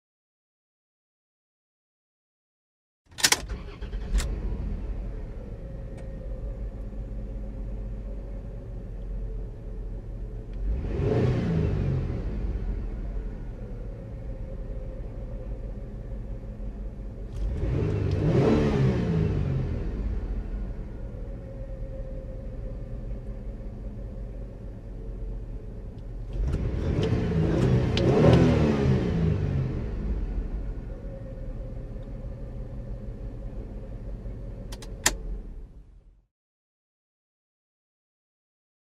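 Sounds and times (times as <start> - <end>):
car engine idling and revving: 3.1 - 36.2.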